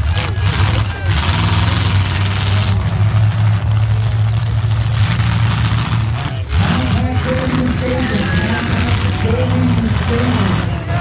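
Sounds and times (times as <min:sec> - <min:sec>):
broad rush of noise: 0:00.0 - 0:11.0
car engines droning: 0:00.0 - 0:11.0.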